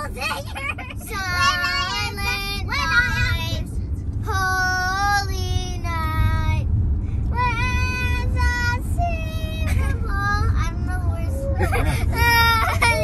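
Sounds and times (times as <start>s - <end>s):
car rumble: 0.0s - 13.0s.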